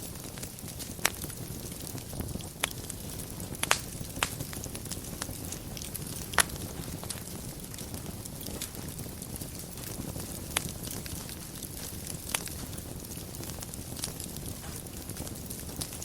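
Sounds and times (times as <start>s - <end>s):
fire crackling in fireplace: 0.0s - 16.0s.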